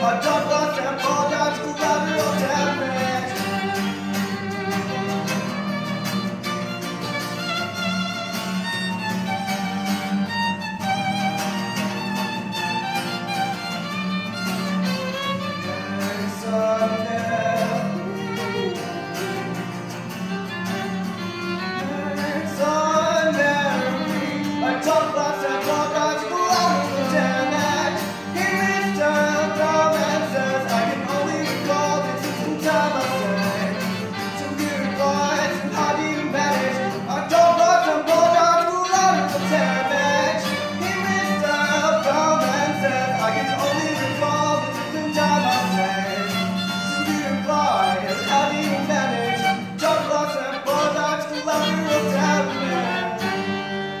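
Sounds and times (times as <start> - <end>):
acoustic guitar strumming: 0.0 - 54.0
person singing: 0.0 - 54.0
violin melody: 0.0 - 54.0.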